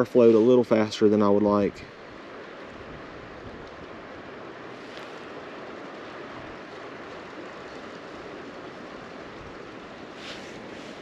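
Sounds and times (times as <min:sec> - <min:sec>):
creek water flowing: 0:00.0 - 0:11.0
wind buffeting microphone: 0:00.0 - 0:11.0.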